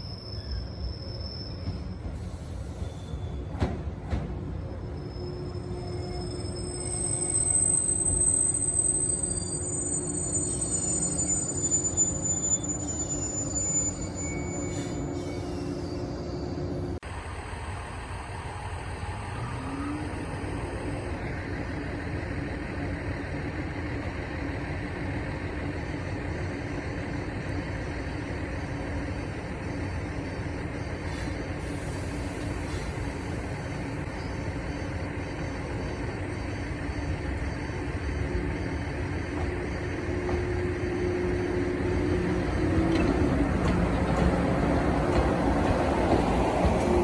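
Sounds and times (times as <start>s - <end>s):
electric train humming: 0.0s - 47.0s
road vehicles rumbling: 1.0s - 47.0s.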